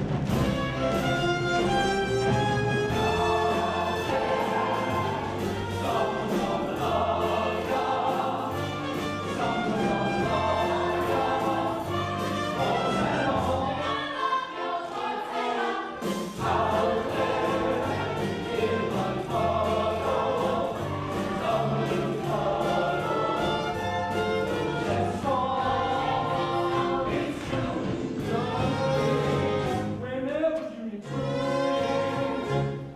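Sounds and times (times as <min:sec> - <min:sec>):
orchestra playing show tune: 0:00.0 - 0:30.1, 0:31.0 - 0:32.9
chorus singing: 0:00.3 - 0:32.9.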